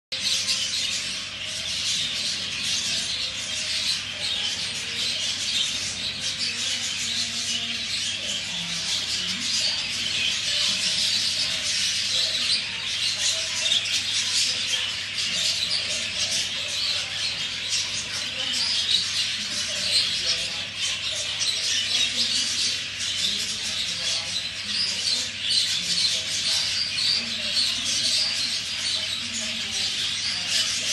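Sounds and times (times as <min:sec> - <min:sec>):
budgerigars chirping: 0:00.1 - 0:30.9.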